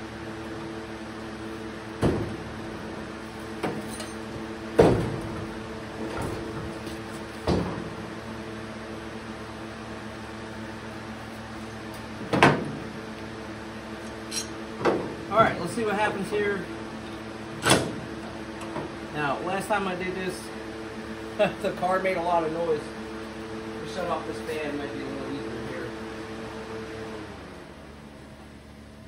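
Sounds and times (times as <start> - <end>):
shop fan humming: 0.0 - 29.0.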